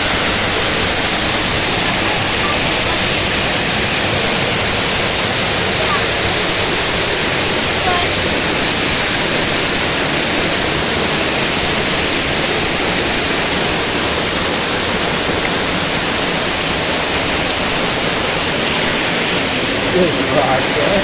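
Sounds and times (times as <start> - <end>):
waterfall crashing: 0.0 - 21.0.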